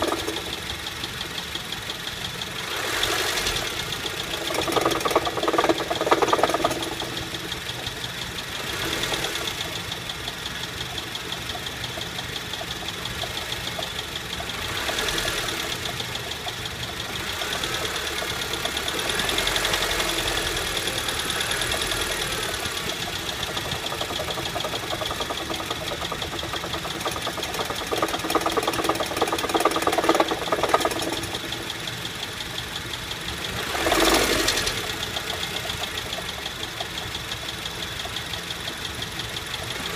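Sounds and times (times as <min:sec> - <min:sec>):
car engine with ticking knock: 0:00.0 - 0:39.9.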